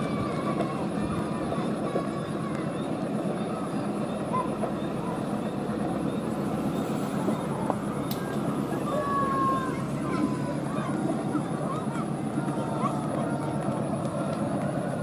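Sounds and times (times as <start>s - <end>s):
train rumbling along rails: 0.0s - 15.0s.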